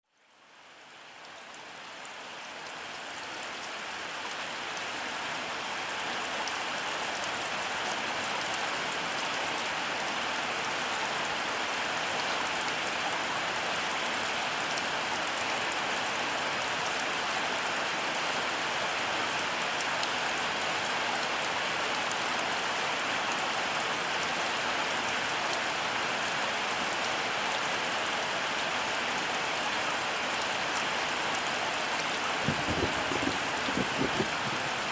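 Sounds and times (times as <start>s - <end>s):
heavy rain: 0.2s - 34.9s.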